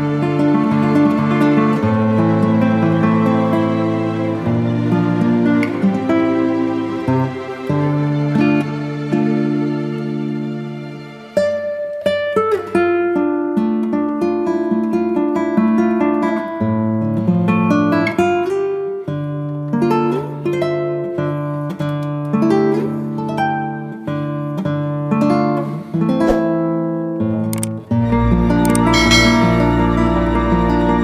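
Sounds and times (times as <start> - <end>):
plucked guitar melody: 0.0 - 31.0.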